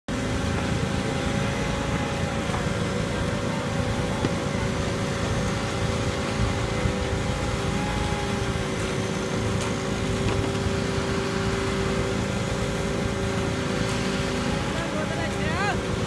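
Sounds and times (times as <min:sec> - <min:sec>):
steady whining tones: 0:00.1 - 0:16.0
truck engines droning: 0:00.1 - 0:16.0.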